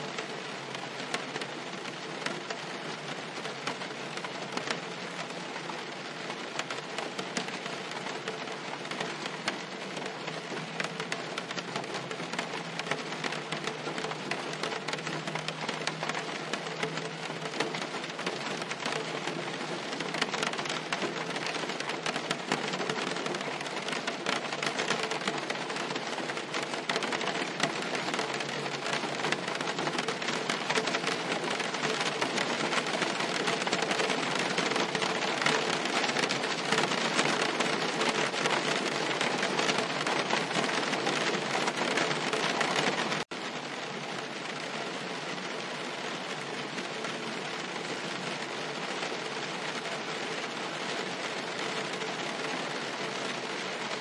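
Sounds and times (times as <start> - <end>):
rain pattering on car roof: 0.0 - 54.0.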